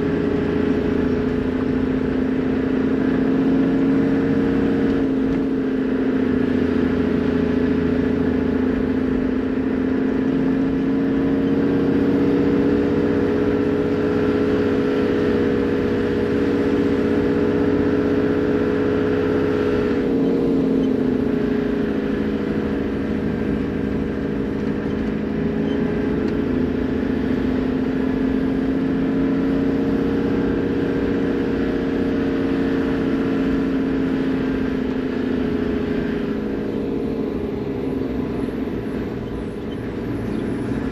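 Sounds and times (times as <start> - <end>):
diesel engine droning while driving: 0.0 - 40.9.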